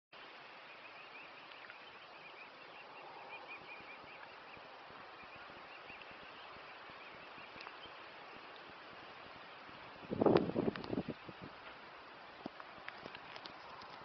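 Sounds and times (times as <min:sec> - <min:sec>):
steady outdoor hiss: 0:00.2 - 0:14.0
cygnets peeping: 0:00.6 - 0:14.0.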